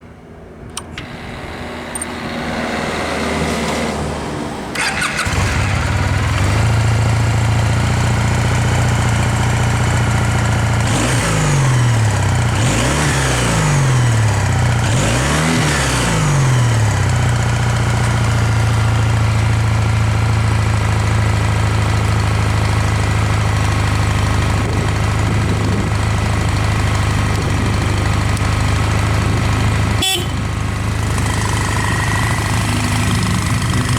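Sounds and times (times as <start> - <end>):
motorcycle engine starting and idling: 0.5 - 33.9
motorcycle engine revving: 1.4 - 33.9.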